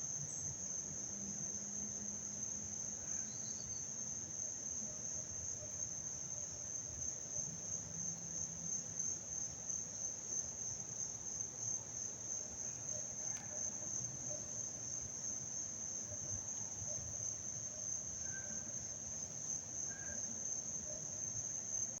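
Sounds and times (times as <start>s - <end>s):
insect chorus trilling: 0.1s - 22.0s.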